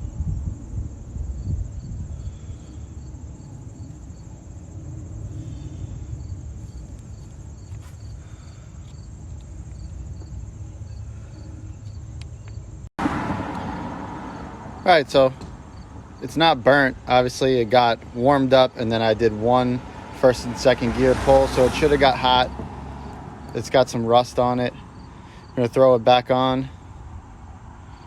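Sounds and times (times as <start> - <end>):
insect chirping: 0.0 - 18.2, 21.4 - 28.0.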